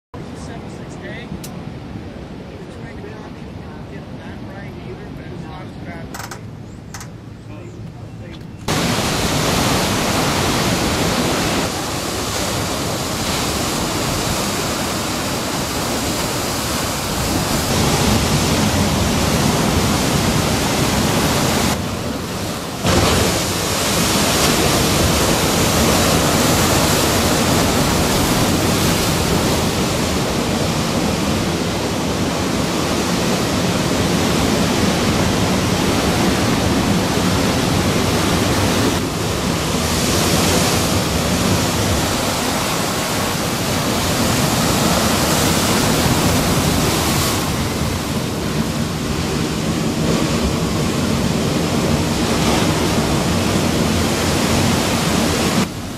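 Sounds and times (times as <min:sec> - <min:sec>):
ocean surf breaking: 0:00.2 - 0:55.9.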